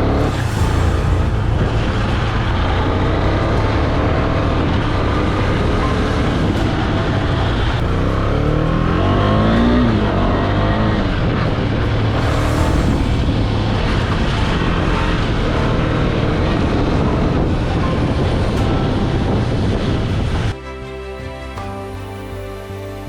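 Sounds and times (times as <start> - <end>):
motorcycle engine revving: 0.0 - 20.6.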